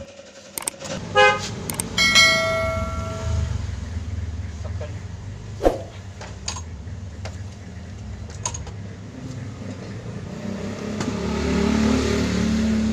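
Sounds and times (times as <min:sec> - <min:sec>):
engine running: 0:00.0 - 0:12.9.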